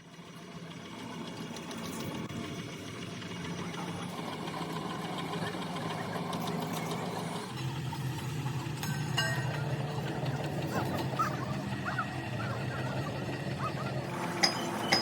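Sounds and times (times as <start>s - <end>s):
workshop machine humming and rattling: 0.1s - 15.0s.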